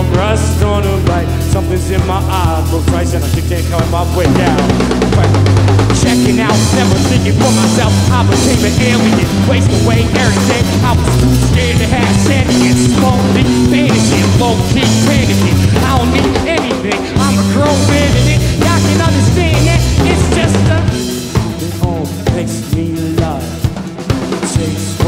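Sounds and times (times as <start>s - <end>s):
bass guitar: 0.0s - 25.0s
drum kit: 0.0s - 25.0s
electric guitar bending notes: 3.7s - 24.0s.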